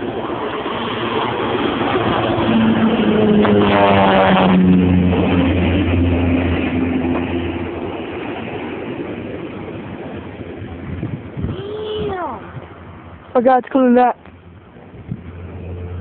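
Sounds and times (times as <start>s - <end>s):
airplane engine passing overhead: 0.0s - 16.0s.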